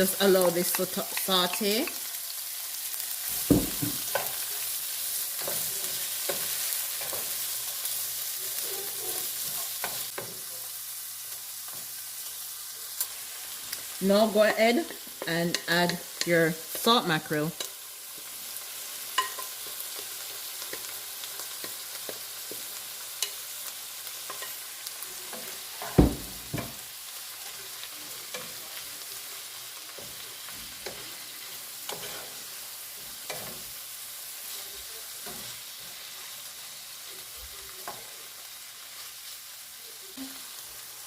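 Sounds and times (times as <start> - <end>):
vegetables sizzling in a pot: 0.0 - 41.0.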